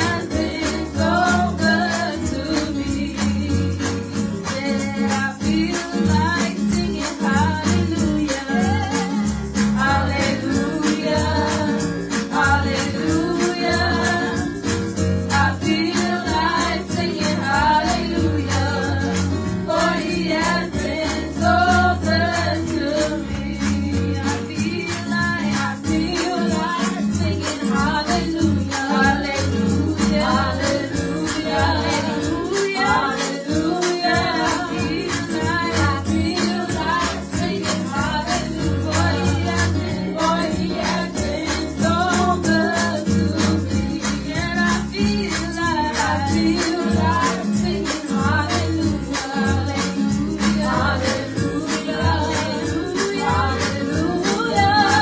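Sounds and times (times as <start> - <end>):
backing music with bass line: 0.0 - 55.0
steady high percussion beat: 0.0 - 55.0
women singing gospel song: 0.0 - 55.0.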